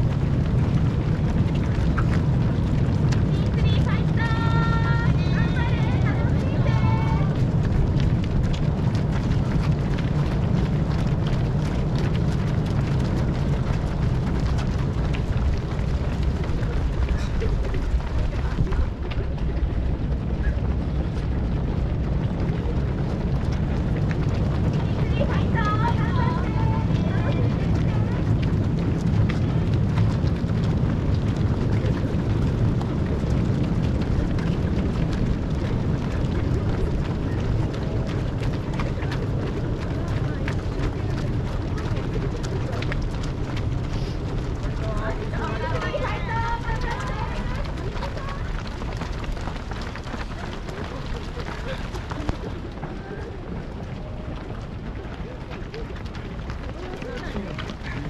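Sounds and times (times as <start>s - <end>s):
low outdoor rumble: 0.0s - 58.0s
runners' footsteps: 0.0s - 58.0s
wind buffeting microphone: 0.0s - 58.0s.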